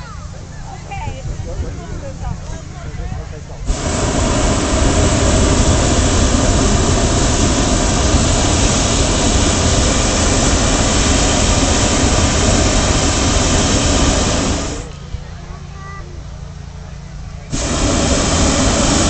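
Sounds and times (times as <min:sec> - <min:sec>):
propane burner roaring: 0:00.0 - 0:19.0.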